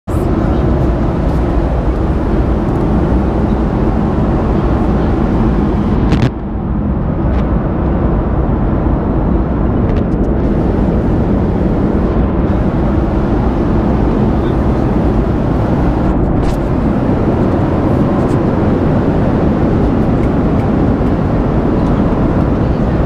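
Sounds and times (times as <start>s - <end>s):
airliner cabin engine noise: 0.1s - 23.0s.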